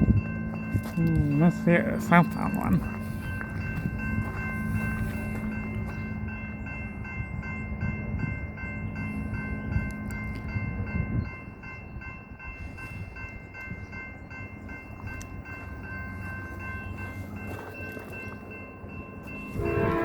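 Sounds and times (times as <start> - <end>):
railroad crossing bell ringing: 0.0 - 20.0.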